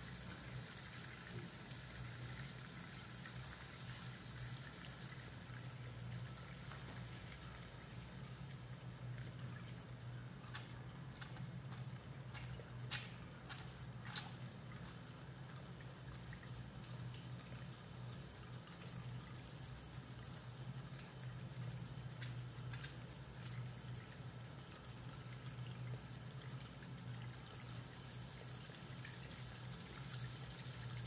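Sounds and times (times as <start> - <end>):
steady low hum: 0.0 - 31.0
tap water running into basin: 0.0 - 31.0.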